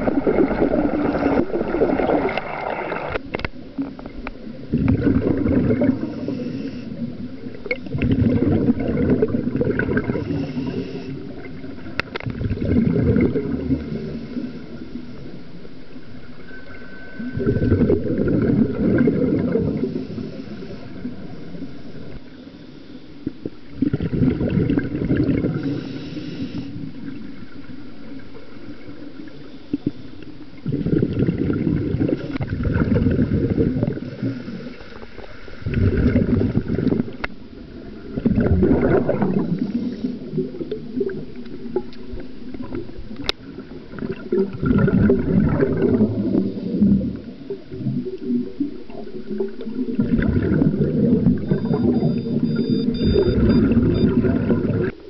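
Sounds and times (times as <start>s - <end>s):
scuba exhaust bubbles gurgling: 0.0s - 55.0s.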